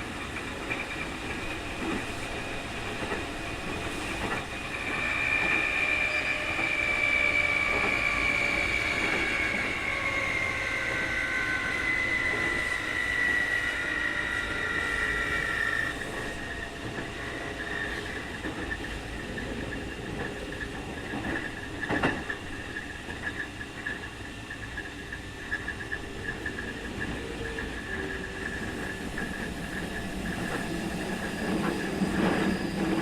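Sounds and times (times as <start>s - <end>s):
high whistling whine: 0.0s - 33.0s
train wheels rumbling on rails: 0.0s - 33.0s.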